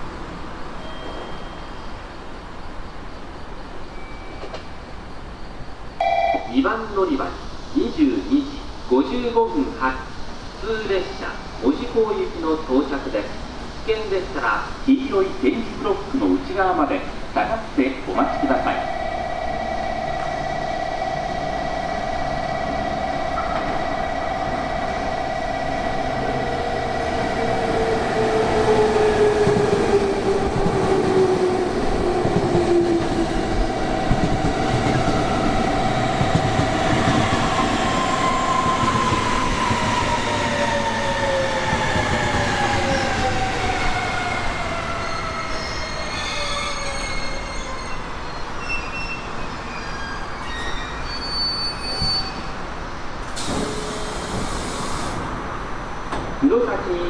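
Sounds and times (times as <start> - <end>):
train wheel and rail noise: 0.0 - 57.0.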